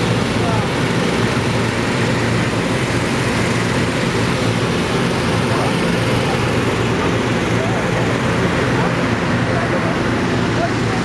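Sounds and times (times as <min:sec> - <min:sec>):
balloon inflator fans running: 0:00.0 - 0:11.0.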